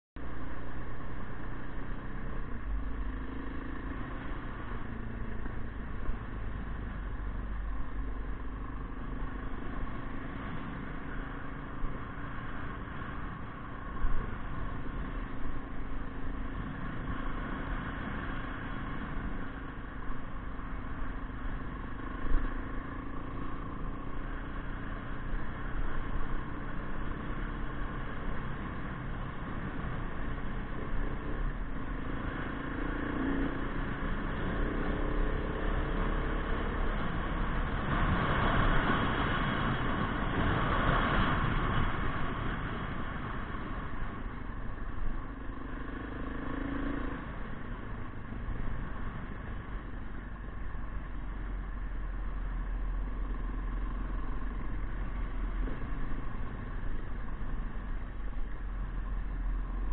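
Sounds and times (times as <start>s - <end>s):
motorcycle engine running: 0.2s - 59.9s
wind and road noise: 0.2s - 59.9s.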